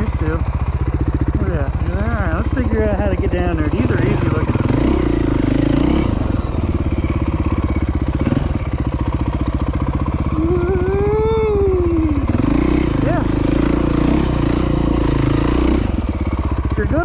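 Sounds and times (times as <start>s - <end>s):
off-road engine running: 0.0s - 17.0s.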